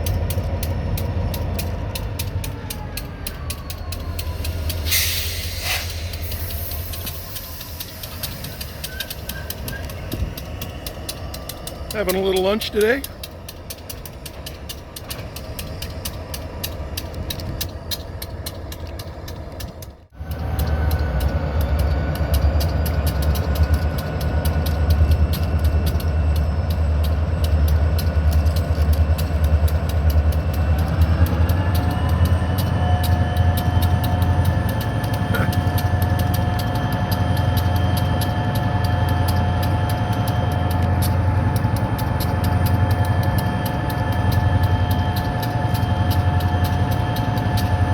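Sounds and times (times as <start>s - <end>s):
diesel locomotive engine rumbling: 0.0s - 47.9s.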